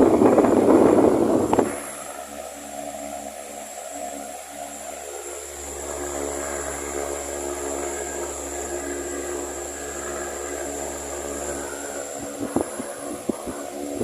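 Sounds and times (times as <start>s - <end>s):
rush of air from fan: 0.0s - 14.0s
wall fan motor hum: 0.0s - 14.0s.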